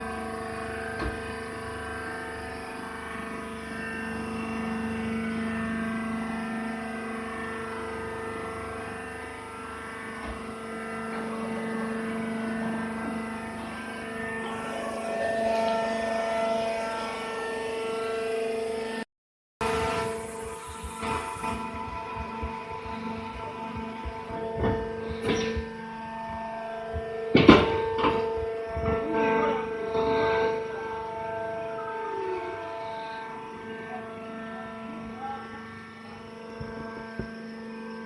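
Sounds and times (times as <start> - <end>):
hydraulic motor and pump humming: 0.0 - 19.0, 19.6 - 38.0.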